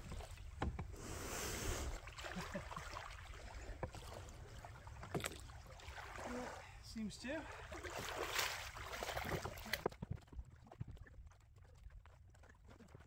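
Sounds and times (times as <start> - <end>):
water sloshing: 0.0 - 13.0.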